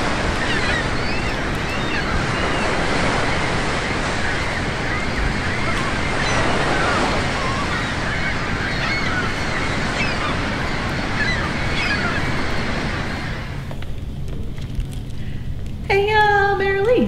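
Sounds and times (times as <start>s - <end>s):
ocean surf: 0.0s - 13.7s
gulls calling: 0.0s - 15.3s.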